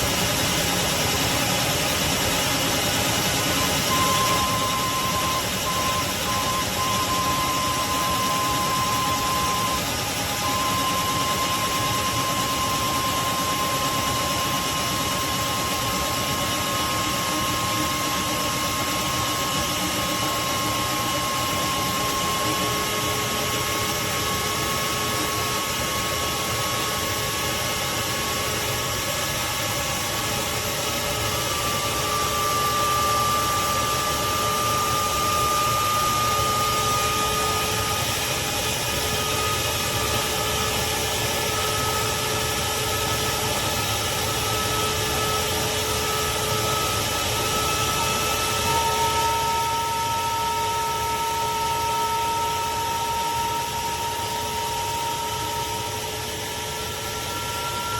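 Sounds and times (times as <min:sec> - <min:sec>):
shop vacuum running: 0:00.0 - 0:57.9.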